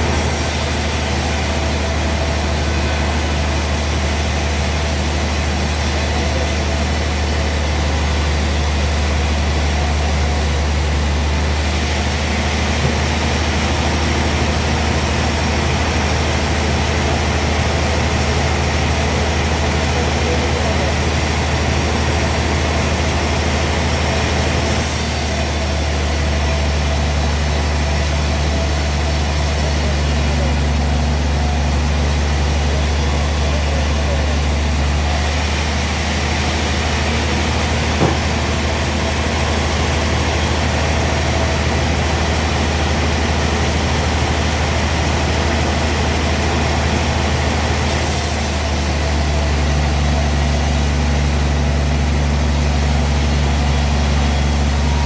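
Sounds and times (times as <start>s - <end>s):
sawmill engine humming: 0.0s - 55.0s.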